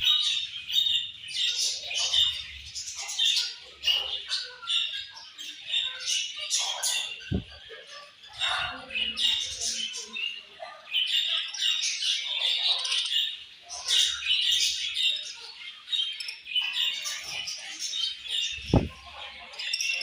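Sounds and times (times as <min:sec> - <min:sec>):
budgerigars chirping and warbling: 0:00.0 - 0:20.0.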